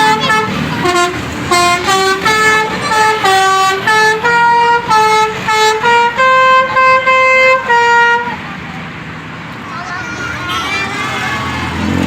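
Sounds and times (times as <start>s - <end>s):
multi-tone bus horn melody: 0.0s - 8.5s, 10.3s - 12.0s.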